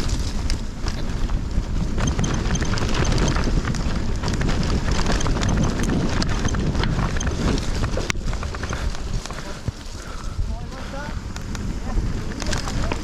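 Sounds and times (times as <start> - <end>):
bike rattling and knocking: 0.0 - 13.0
tyre and wind noise: 0.0 - 13.0.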